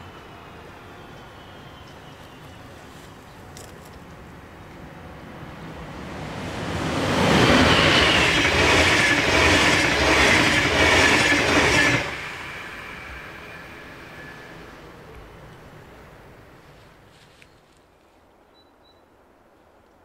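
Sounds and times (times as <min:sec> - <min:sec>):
train passing at speed: 0:00.0 - 0:17.2.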